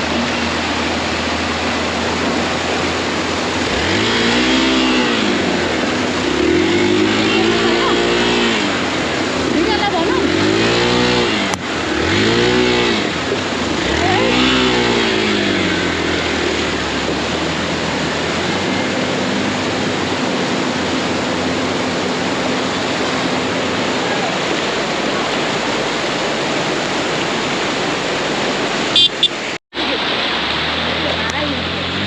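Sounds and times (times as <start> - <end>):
motorcycle engine revving: 0.0 - 32.0
riding noise rush: 0.0 - 32.0.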